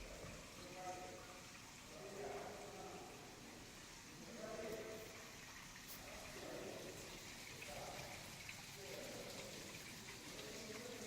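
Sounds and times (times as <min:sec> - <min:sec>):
water running down glass: 0:00.0 - 0:11.0.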